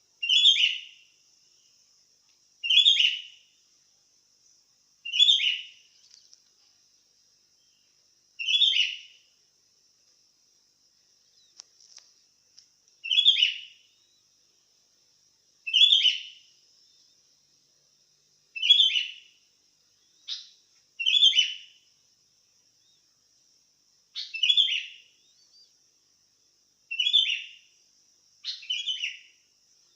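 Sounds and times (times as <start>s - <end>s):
faint high hiss: 0.0s - 29.9s.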